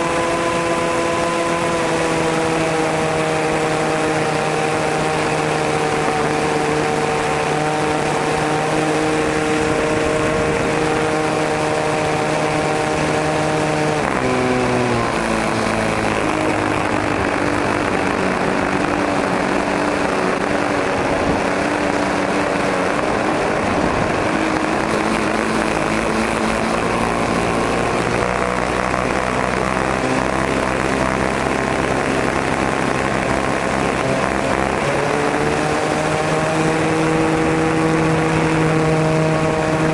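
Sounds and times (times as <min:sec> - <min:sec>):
model aircraft engine: 0:00.0 - 0:39.9.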